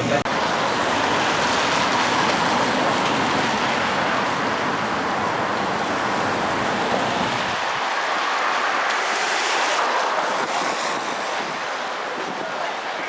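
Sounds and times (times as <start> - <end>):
heavy rain: 0.1 - 13.0.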